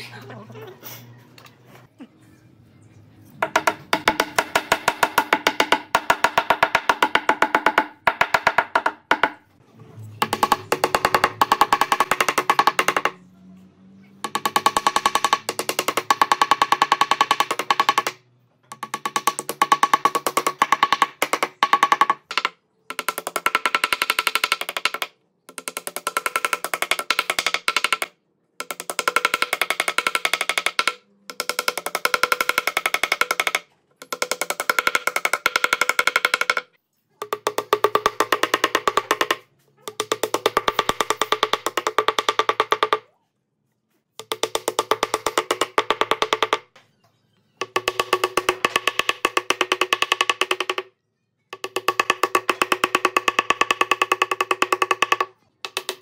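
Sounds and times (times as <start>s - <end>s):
hammer tapping wooden strips: 3.4s - 9.5s, 10.2s - 13.2s, 14.2s - 43.1s, 44.2s - 46.8s, 47.6s - 56.0s.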